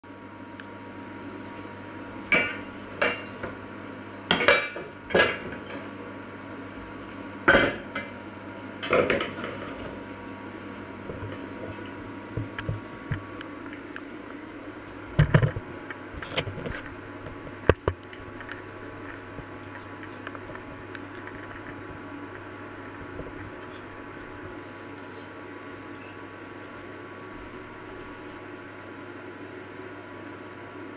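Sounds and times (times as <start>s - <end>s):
steady low hum: 0.1s - 30.9s.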